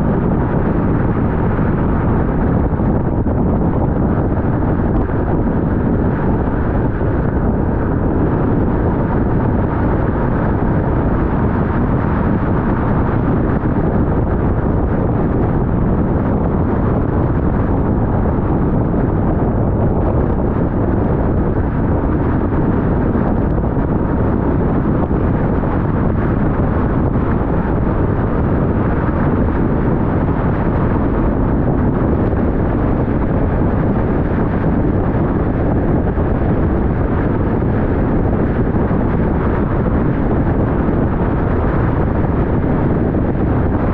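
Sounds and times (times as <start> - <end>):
car road and wind noise: 0.0 - 43.9.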